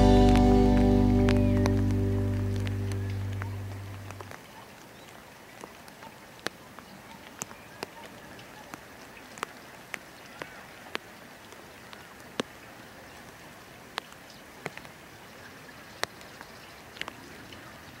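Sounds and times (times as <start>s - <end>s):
light rain hiss: 0.0s - 18.0s
raindrops ticking: 0.0s - 18.0s.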